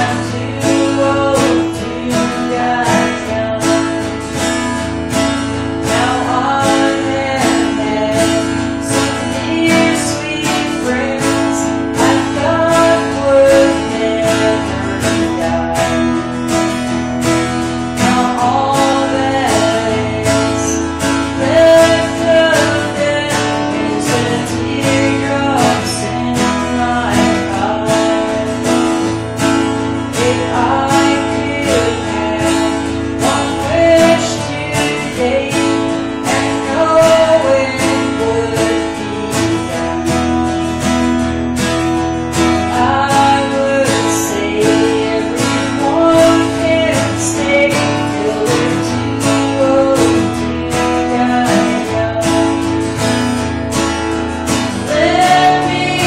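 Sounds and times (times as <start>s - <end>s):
person singing: 0.0s - 56.0s
strummed acoustic guitar: 0.0s - 56.0s.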